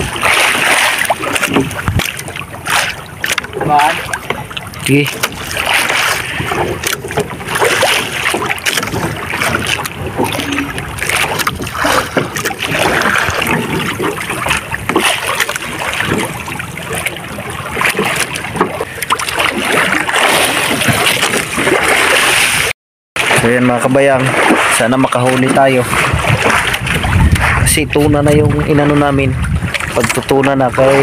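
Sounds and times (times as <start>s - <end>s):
water splashing against boat hull: 0.0s - 31.0s.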